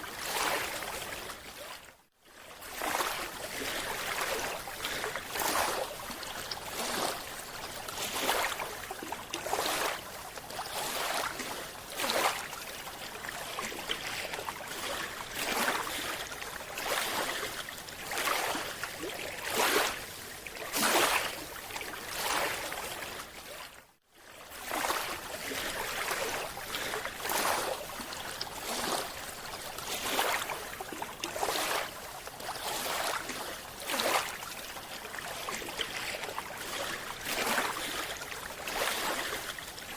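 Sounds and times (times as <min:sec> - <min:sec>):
rushing water in surges: 0:00.0 - 0:39.9.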